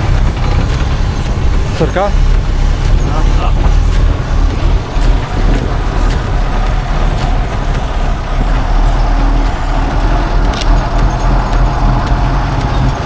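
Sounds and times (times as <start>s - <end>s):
large vehicle engine rumbling: 0.0s - 13.0s.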